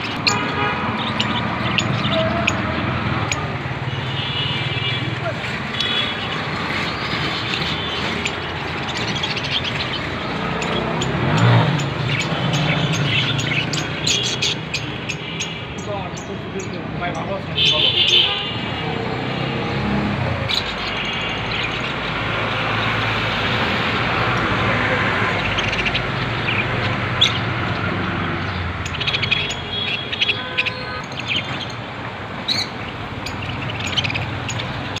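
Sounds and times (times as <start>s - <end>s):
budgerigars chirping: 0.0s - 3.6s, 5.6s - 18.8s, 20.4s - 35.0s
traffic din: 0.0s - 35.0s.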